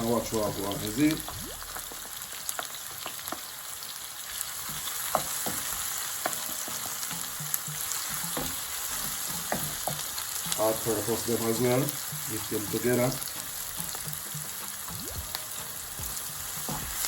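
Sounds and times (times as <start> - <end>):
seasoning sizzling in hot oil: 0.0 - 17.0.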